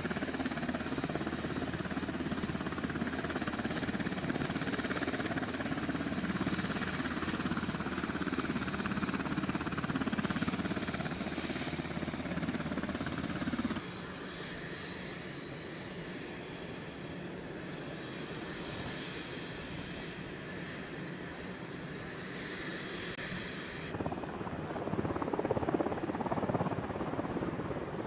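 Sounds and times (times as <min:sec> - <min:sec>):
helicopter rotor and engines running: 0:00.0 - 0:28.0.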